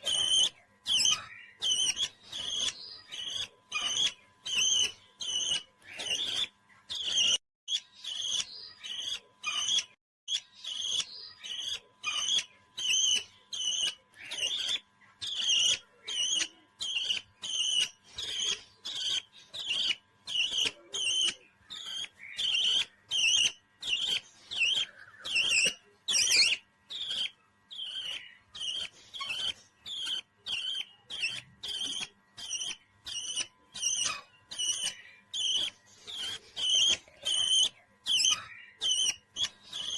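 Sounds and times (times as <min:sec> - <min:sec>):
parrot high chirps: 0:00.0 - 0:39.9.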